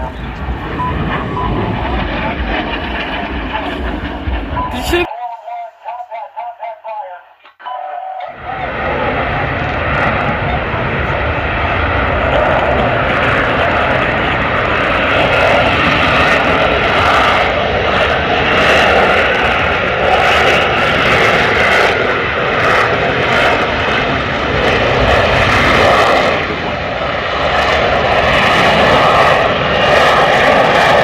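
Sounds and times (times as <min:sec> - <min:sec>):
aircraft engine: 0:00.0 - 0:05.0, 0:08.3 - 0:31.0.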